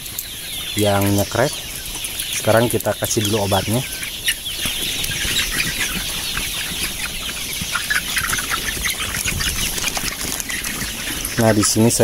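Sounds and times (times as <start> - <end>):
birds snicking and rattling breath: 0.0 - 12.0
young cockerels chirping and clucking: 0.0 - 12.0.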